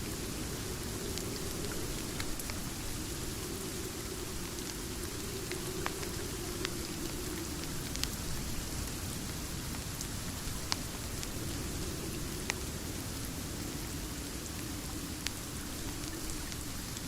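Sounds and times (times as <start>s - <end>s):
steady rain: 0.0s - 17.0s
wood fire crackles: 0.0s - 17.0s.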